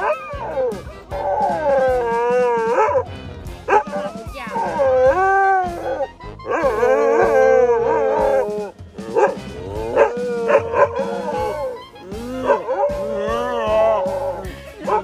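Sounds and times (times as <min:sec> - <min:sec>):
dogs howling: 0:00.0 - 0:03.1, 0:03.7 - 0:15.0
background music: 0:00.0 - 0:15.0.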